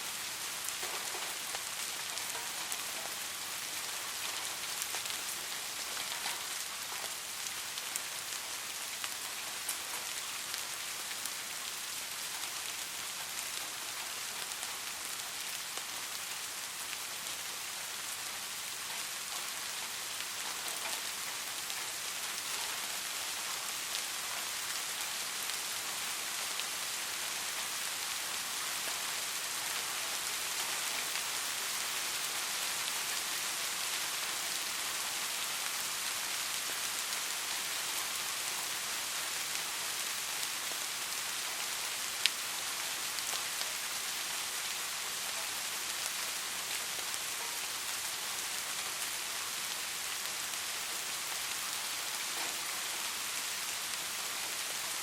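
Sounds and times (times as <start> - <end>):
soft rain falling: 0.0 - 55.0.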